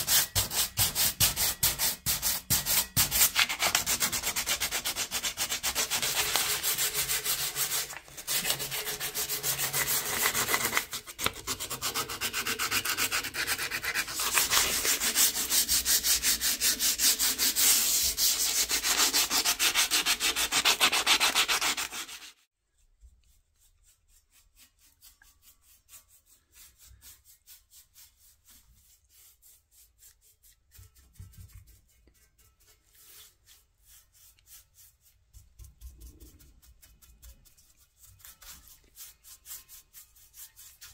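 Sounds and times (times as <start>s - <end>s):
sandpaper rubbing on metal: 0.0s - 22.5s, 23.6s - 40.9s.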